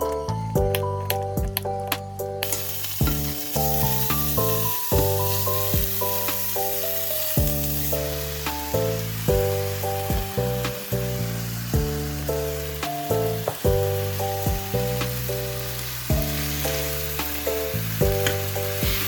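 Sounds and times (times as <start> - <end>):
background music with beat: 0.0 - 19.0
food sizzling in a pan: 2.4 - 19.0.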